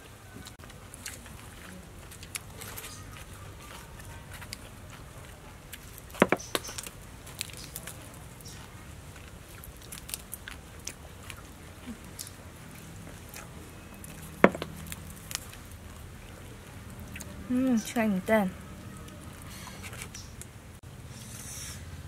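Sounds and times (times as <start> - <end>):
crisp crackling of fried fish: 0.3 - 20.8.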